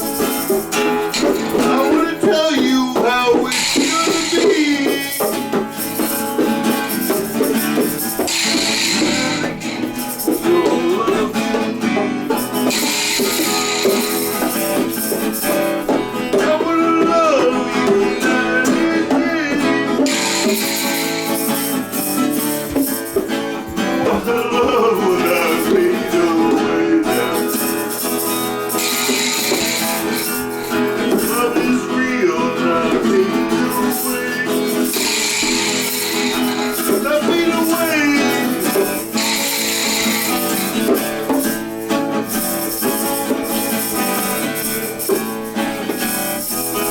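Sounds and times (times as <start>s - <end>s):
guitar playing: 0.0s - 46.9s
tambourine shaken in rhythm: 0.0s - 46.9s.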